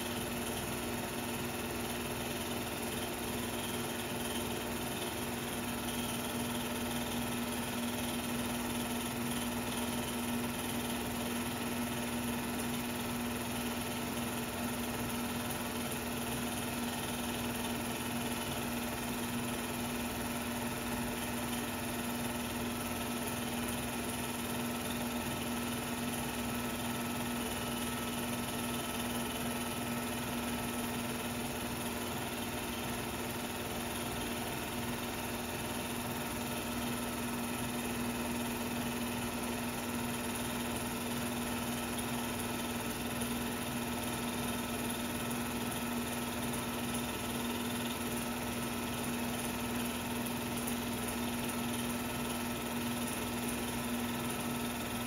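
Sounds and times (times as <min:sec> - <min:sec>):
film projector running: 0:00.0 - 0:55.0.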